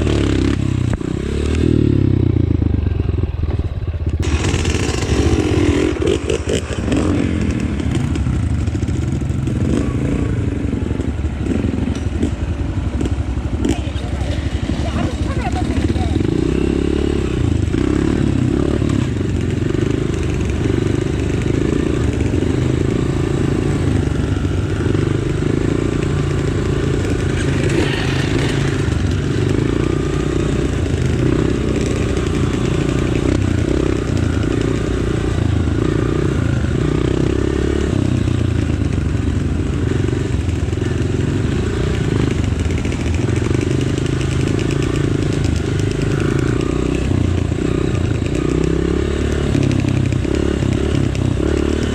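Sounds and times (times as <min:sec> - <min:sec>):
dirt bike engine revving: 0:00.0 - 0:02.7, 0:04.2 - 0:51.9.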